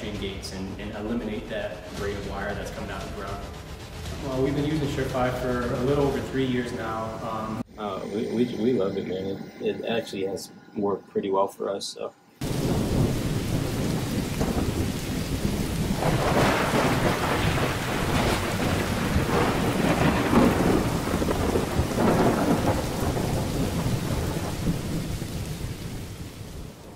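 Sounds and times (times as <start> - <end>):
rolling thunder: 0.0 - 8.9, 12.4 - 26.9
rain hissing: 0.0 - 26.9.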